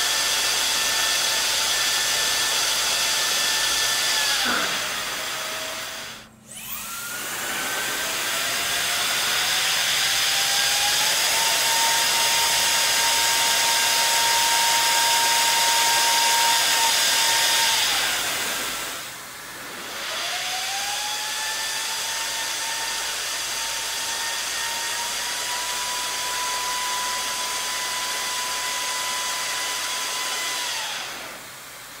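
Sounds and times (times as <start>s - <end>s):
hair dryer motor whine: 0.0s - 32.0s.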